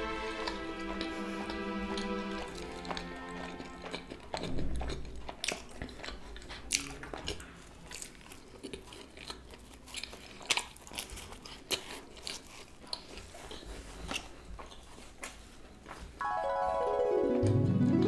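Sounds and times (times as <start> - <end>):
person chewing food: 0.0 - 16.2.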